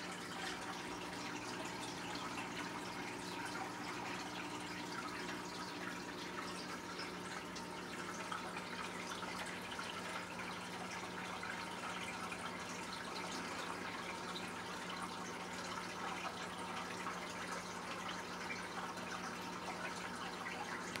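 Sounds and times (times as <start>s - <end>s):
water trickling and dripping: 0.0s - 21.0s.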